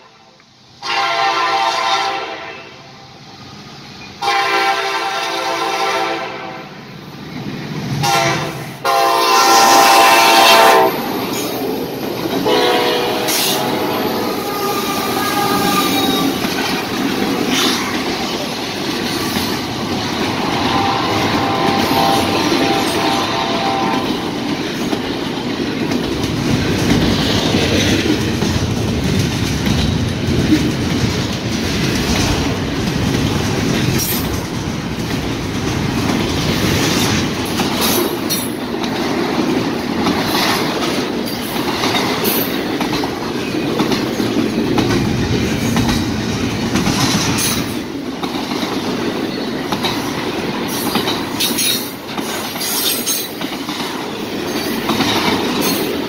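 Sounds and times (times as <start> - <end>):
wheels clacking over rail joints: 9.8 - 56.0.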